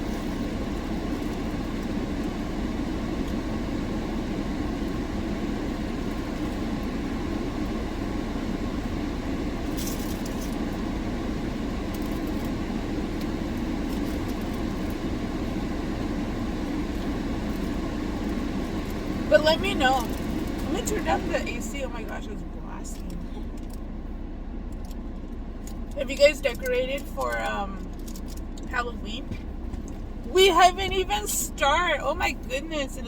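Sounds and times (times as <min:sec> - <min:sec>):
car air conditioning blowing: 0:00.0 - 0:33.0.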